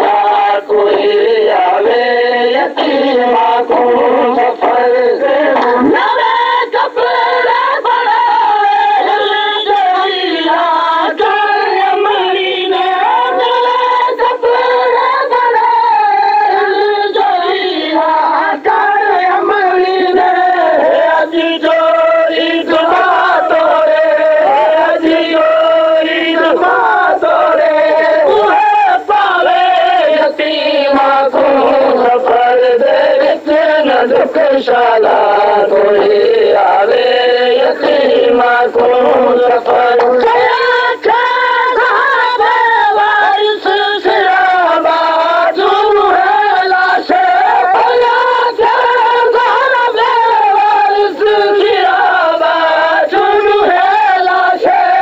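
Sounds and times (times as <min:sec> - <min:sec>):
person singing a lament: 0:00.0 - 0:55.0.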